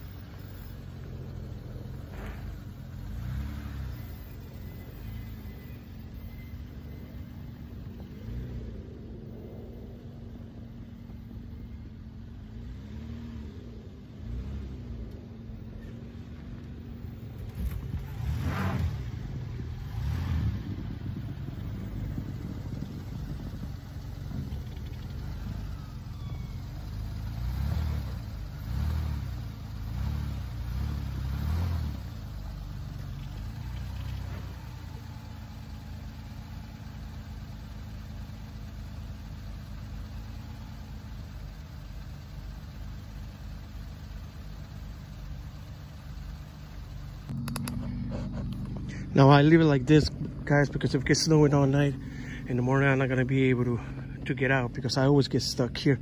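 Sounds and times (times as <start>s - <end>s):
engine idling: 0.0s - 18.4s, 19.0s - 56.0s
minivan engine revving: 0.0s - 56.0s.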